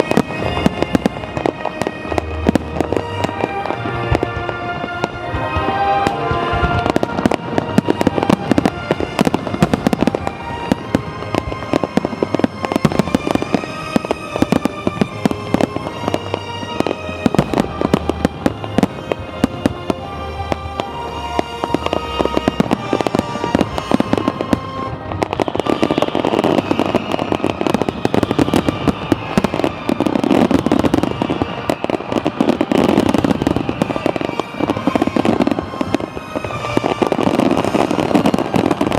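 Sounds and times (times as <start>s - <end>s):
fireworks bursting: 0.0s - 38.9s
music playing: 0.0s - 38.9s.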